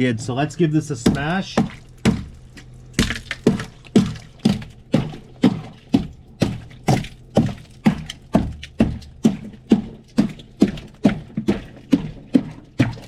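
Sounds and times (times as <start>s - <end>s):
blows smashing ice in freezer: 0.0s - 13.0s.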